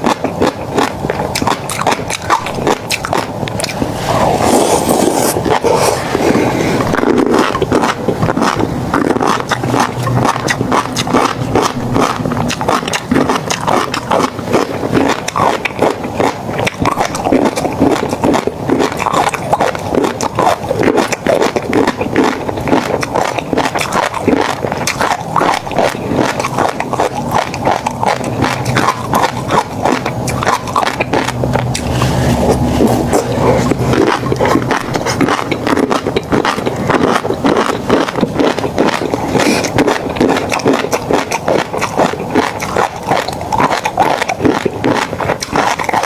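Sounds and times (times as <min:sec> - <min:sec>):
low hum: 0:00.0 - 0:46.0
wet chewing with crackling pops: 0:00.0 - 0:46.0.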